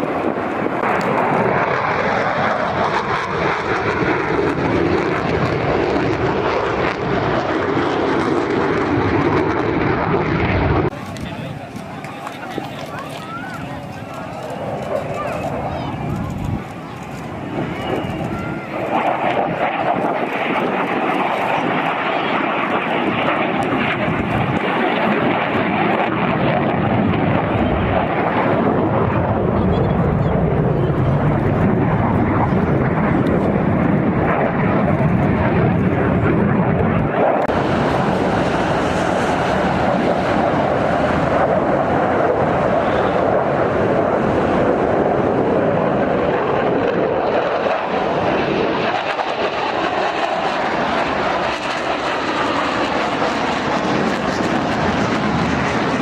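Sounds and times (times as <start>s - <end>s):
military aircraft engine: 0.0s - 56.0s.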